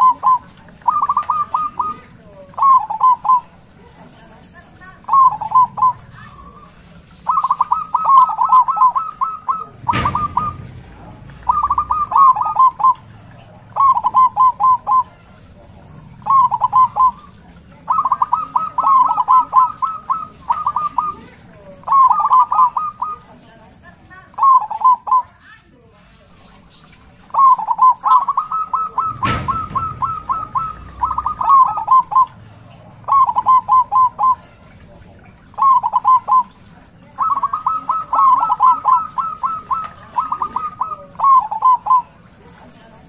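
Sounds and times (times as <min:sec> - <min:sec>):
dove cooing: 0:00.0 - 0:43.0.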